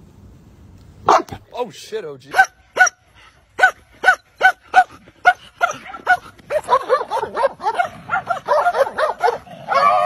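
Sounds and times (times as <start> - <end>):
dogs barking and yipping: 1.0 - 1.4, 2.3 - 10.0.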